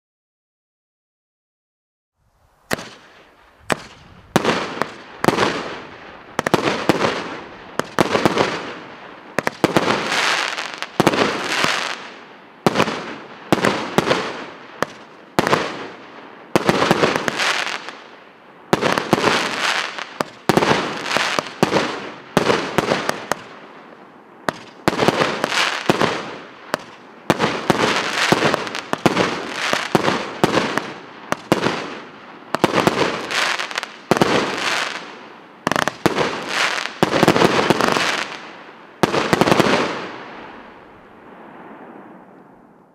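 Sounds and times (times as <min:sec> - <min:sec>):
firework shots bang and crackle: 0:02.7 - 0:40.7.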